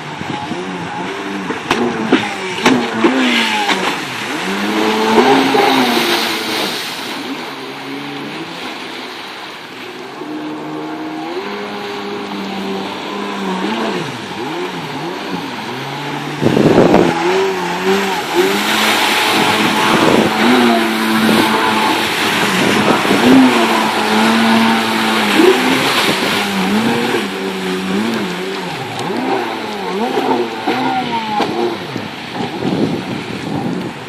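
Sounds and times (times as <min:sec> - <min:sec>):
jet ski engine revving: 0:00.0 - 0:34.0
loud rush of water: 0:00.0 - 0:34.0.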